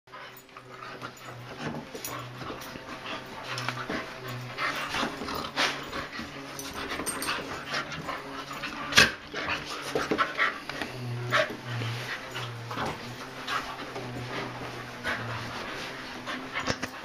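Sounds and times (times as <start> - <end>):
dogs panting: 0.1 - 17.0
dogs growling: 0.2 - 17.0.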